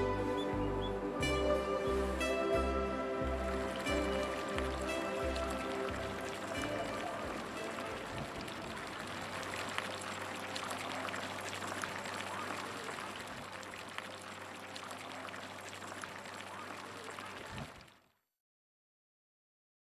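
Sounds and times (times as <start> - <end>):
water pouring and splashing: 1.2 - 18.1.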